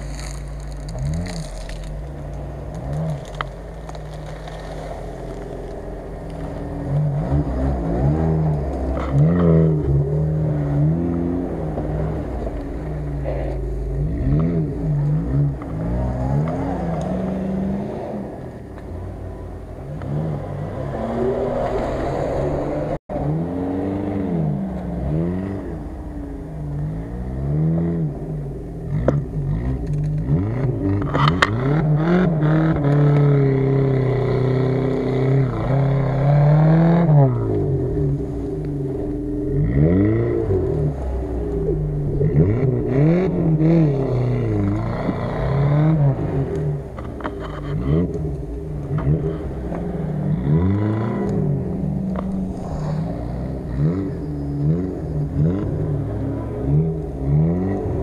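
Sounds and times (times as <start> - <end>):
engine revving: 0.0 - 58.0.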